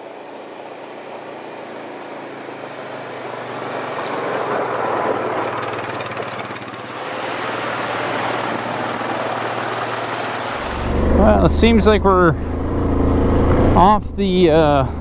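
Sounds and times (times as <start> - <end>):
atv engine running: 0.7 - 15.0.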